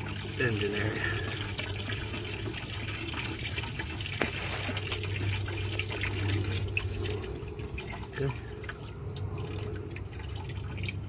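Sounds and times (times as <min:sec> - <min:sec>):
liquid draining into a bucket: 0:00.0 - 0:11.0.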